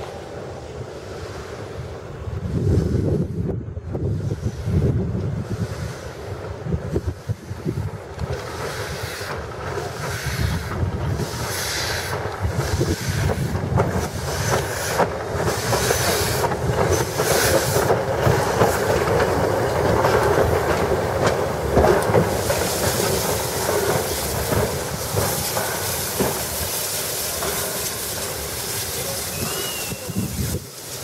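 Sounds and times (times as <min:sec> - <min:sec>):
steam hissing: 0:00.0 - 0:31.0
train wheels clicking over rail joints: 0:04.1 - 0:31.0.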